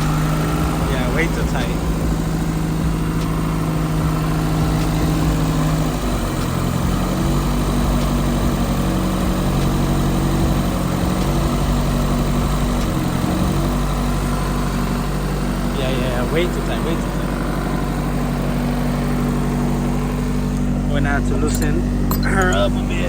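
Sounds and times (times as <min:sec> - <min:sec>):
car engine fast idle: 0:00.0 - 0:23.0.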